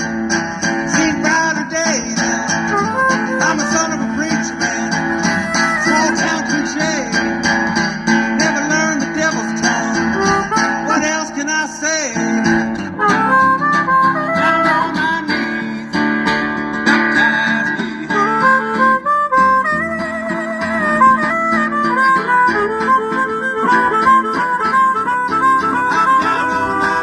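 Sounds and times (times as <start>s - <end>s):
harmonica playing blues: 0.0s - 27.0s
strummed acoustic guitar: 0.0s - 27.0s.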